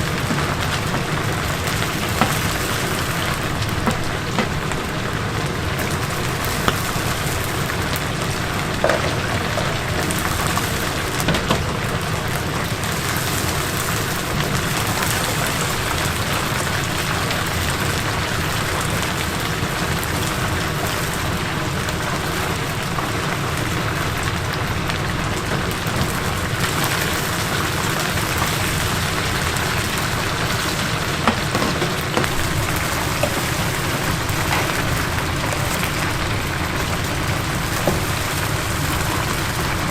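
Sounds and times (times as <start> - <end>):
oil popping: 0.0 - 17.0, 24.3 - 39.9
chicken deep-frying in oil: 0.0 - 39.9.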